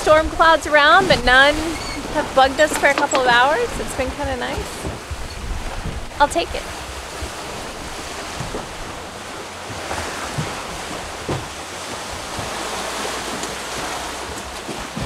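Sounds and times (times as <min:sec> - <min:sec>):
low bumps: 0:00.0 - 0:15.0
sea water rushing past boat: 0:00.0 - 0:15.0
wind on microphone: 0:00.0 - 0:15.0.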